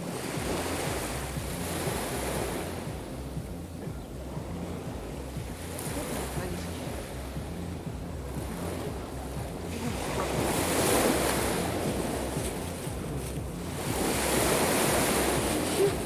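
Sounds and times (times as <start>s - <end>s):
sea waves washing on shore: 0.0s - 16.0s
wind rumbling on microphone: 0.0s - 16.0s.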